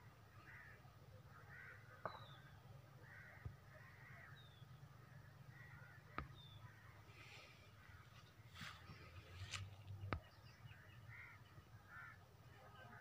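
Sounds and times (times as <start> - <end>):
harsh caw-like bird calls: 0.3 - 9.2, 10.6 - 13.0.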